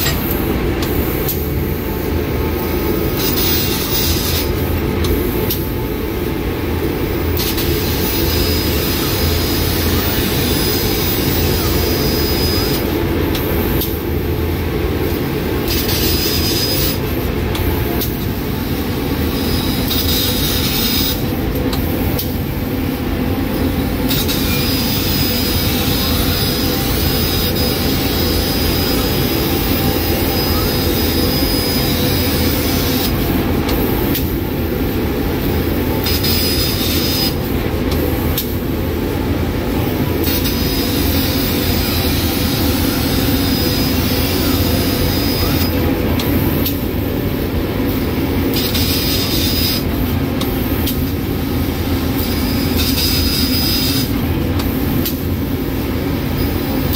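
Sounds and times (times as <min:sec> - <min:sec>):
laser cutter cutting steel: 0:00.0 - 0:05.8, 0:07.1 - 0:14.3, 0:15.0 - 0:22.5, 0:23.5 - 0:38.7, 0:39.8 - 0:46.9, 0:48.0 - 0:55.3.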